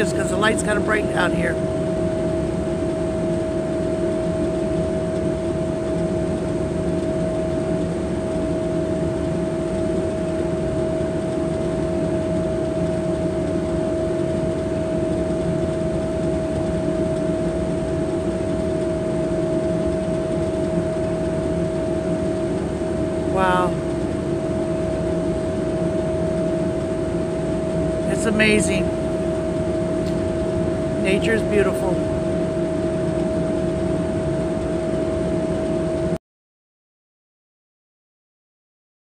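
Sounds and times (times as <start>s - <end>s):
boat engine drone: 0.0s - 36.2s
constant engine whine: 0.0s - 36.2s.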